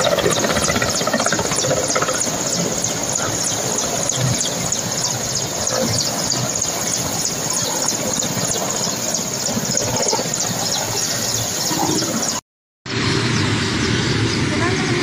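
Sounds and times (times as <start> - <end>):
helicopter rotor chopping: 0.0 - 15.0
helicopter turbine whine: 0.0 - 15.0.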